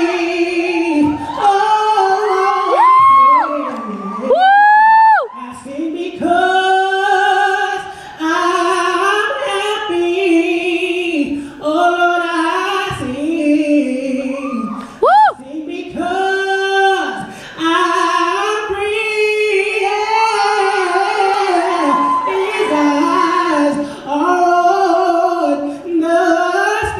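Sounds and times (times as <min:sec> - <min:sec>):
man singing in high voice: 0:00.0 - 0:26.9.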